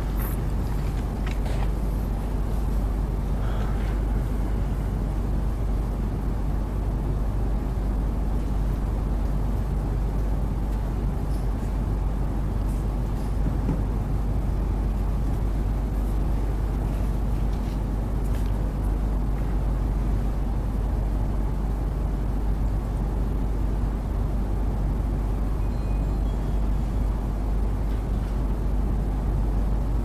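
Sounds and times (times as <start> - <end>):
low room rumble: 0.0 - 30.0.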